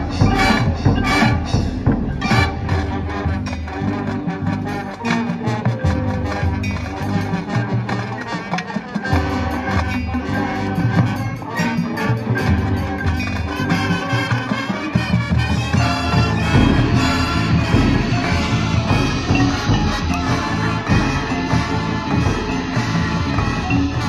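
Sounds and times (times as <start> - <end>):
drum-line percussion hits: 0.0 - 24.0
marching band playing: 0.0 - 24.0.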